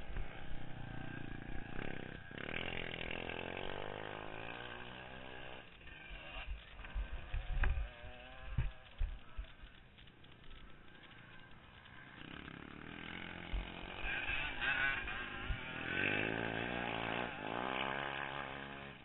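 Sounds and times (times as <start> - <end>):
engine revving: 0.0 - 19.0
low uneven rumble: 0.0 - 19.0.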